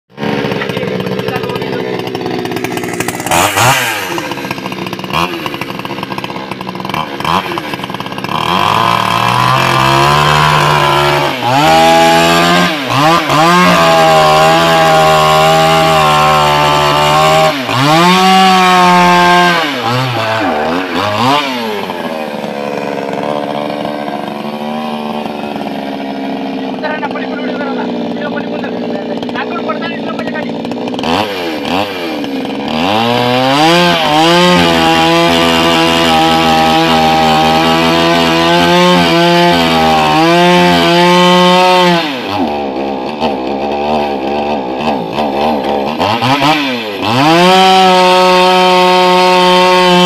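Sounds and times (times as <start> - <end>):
chainsaw cutting log: 0.1 - 50.0
chainsaw engine: 0.1 - 50.0.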